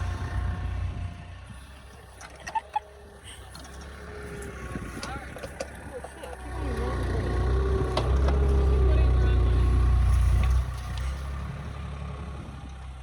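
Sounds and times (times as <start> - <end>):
excavator engine under load: 0.0 - 13.0.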